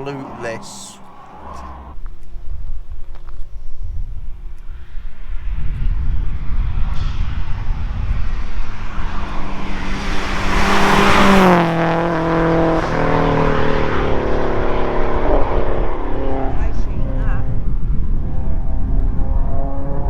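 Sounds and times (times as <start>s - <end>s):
car engine passing at speed: 0.0s - 3.0s, 3.7s - 20.0s.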